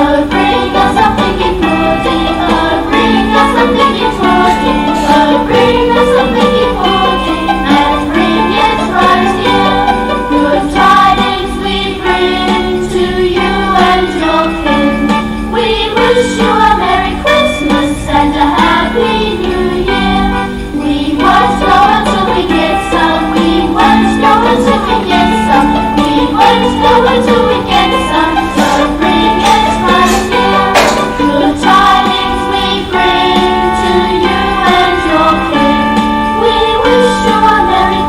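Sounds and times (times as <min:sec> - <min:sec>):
intro music with singing: 0:00.0 - 0:38.0
jingling percussion: 0:00.0 - 0:38.0.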